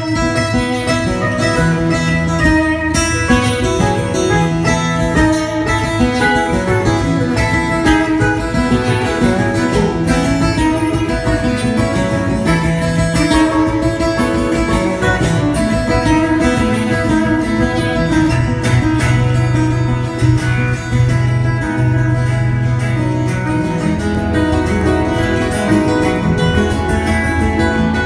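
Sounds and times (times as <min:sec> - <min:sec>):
acoustic guitars playing: 0:00.0 - 0:28.0.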